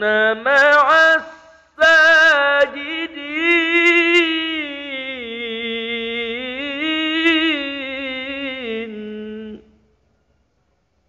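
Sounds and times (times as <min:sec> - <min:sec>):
man reciting melodically: 0:00.0 - 0:09.8.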